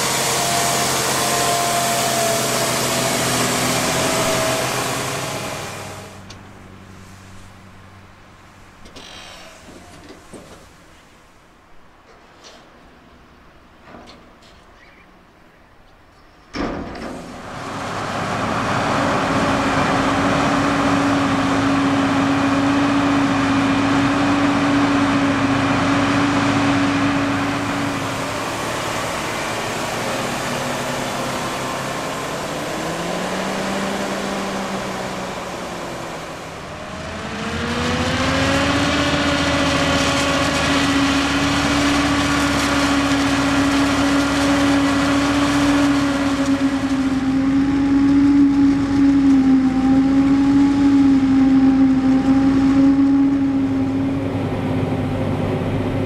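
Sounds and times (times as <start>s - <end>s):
machinery engine whining: 0.0s - 10.6s, 17.4s - 56.0s.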